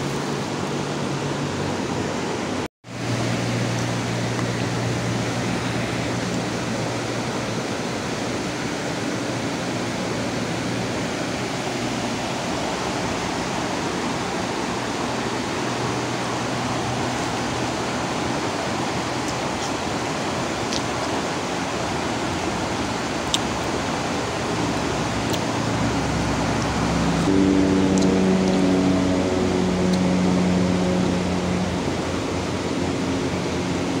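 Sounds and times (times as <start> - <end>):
river rushing over rapids: 0.0 - 34.0.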